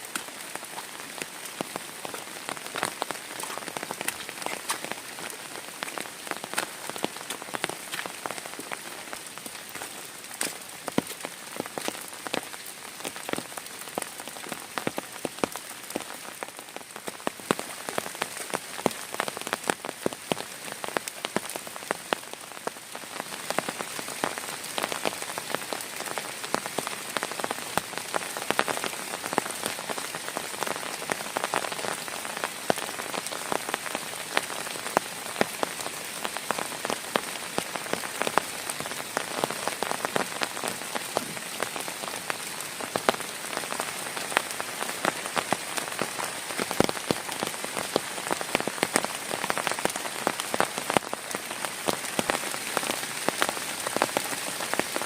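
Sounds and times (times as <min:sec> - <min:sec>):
raindrops striking a surface: 0:00.0 - 0:55.0.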